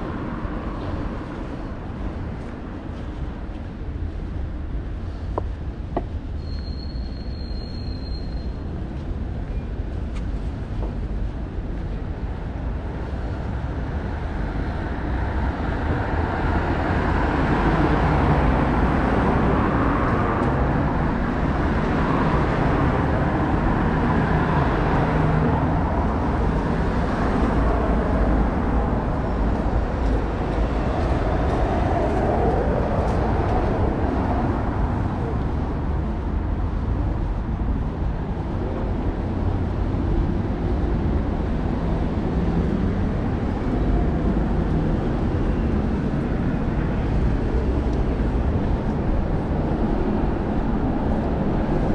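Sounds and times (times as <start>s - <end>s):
traffic noise: 0.0s - 51.9s.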